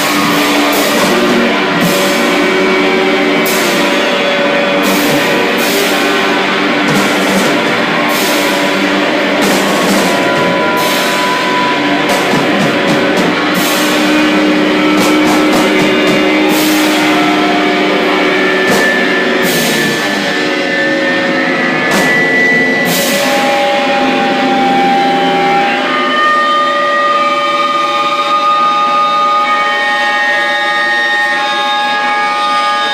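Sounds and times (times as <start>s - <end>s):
drum kit: 0.0s - 28.6s
cymbal crashes: 0.0s - 32.9s
distorted electric guitars: 0.0s - 32.9s
guitar feedback tones: 0.0s - 32.9s.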